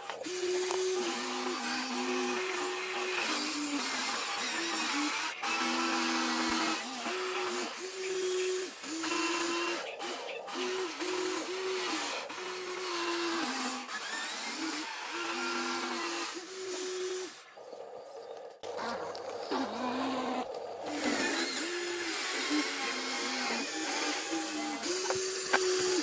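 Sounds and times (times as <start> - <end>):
small electric motors whirring: 0.0 - 17.6, 18.6 - 26.0.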